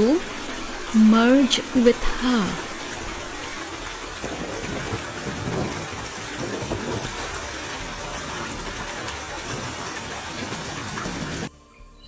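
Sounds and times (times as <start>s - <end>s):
fast-flowing stream rushing: 0.0s - 11.5s.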